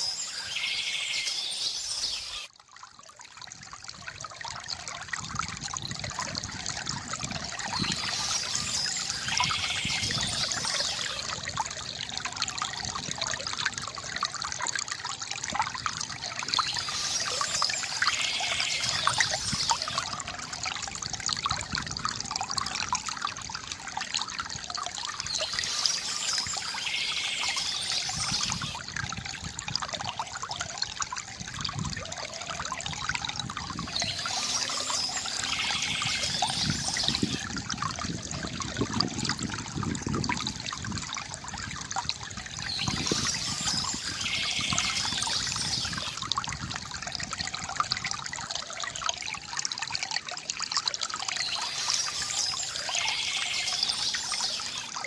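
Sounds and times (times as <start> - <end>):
fountain water trickling: 0.0 - 55.0.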